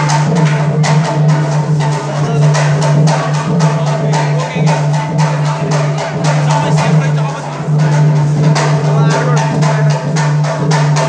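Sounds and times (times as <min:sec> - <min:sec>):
hand drum: 0:00.0 - 0:11.0.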